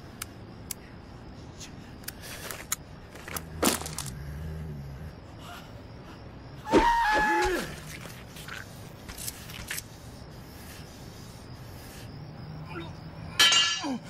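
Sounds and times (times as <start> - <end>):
film soundtrack ambience: 0.0 - 14.0.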